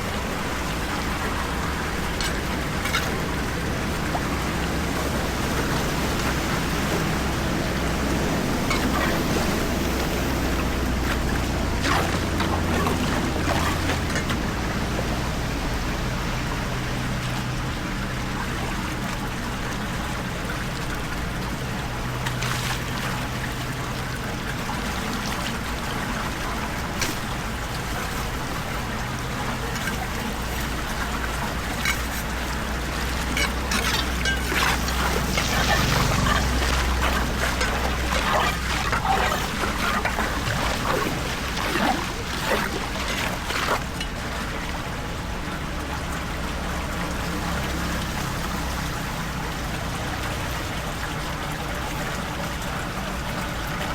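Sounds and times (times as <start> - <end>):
water pouring down a drain: 0.0 - 53.9.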